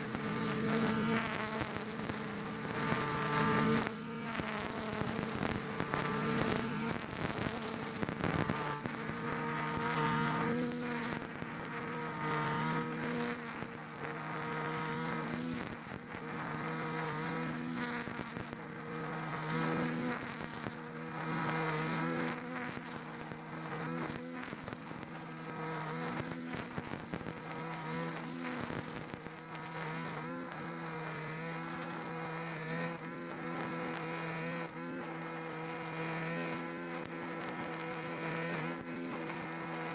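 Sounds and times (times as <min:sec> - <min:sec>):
brush cutter engine buzzing: 0:00.0 - 0:39.9
nylon line cutting grass: 0:00.0 - 0:39.9.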